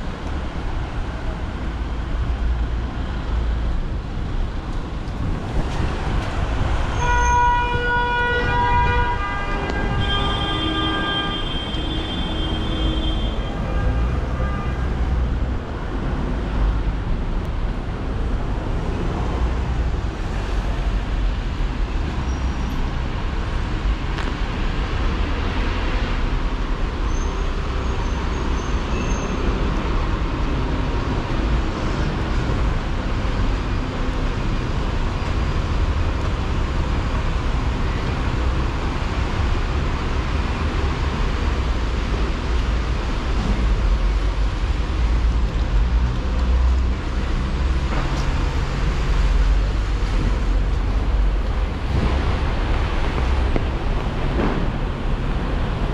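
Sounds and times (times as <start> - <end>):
traffic on wet roads: 0.0 - 55.9.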